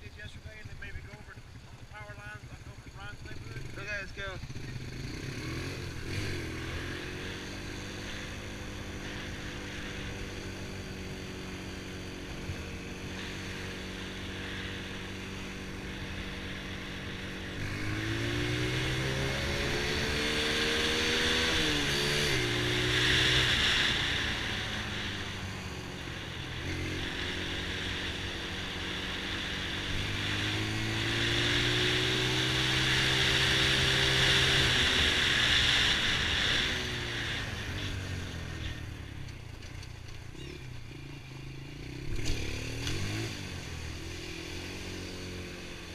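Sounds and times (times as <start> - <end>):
quad engine running: 0.0 - 45.9.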